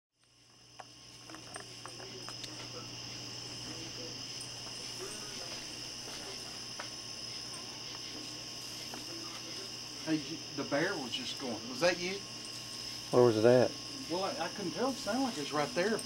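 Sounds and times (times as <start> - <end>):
crickets trilling: 0.2 - 16.0.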